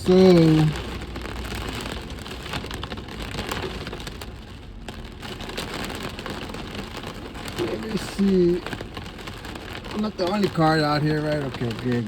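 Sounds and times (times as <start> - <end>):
steady rain heard from inside car: 0.0 - 12.0.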